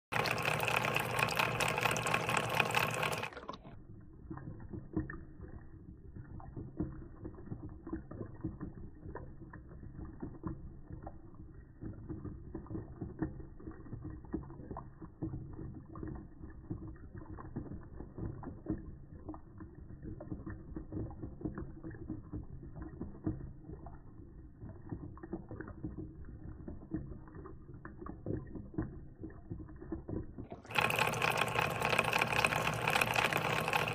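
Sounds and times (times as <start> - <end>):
magnetic stirrer whirring in water: 0.1 - 33.9.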